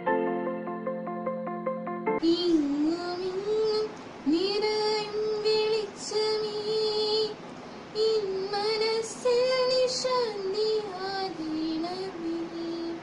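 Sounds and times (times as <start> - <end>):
girl singing solo: 2.2 - 13.0.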